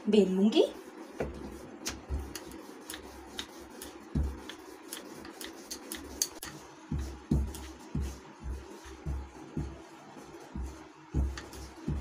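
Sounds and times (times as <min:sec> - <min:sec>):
rolling pin rubbing on dough: 0:00.2 - 0:12.0.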